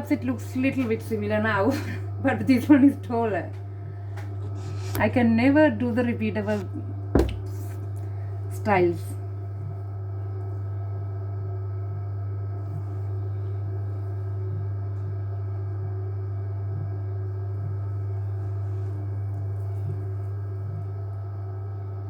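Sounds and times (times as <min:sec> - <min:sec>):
pottery wheel motor humming: 0:00.0 - 0:22.0.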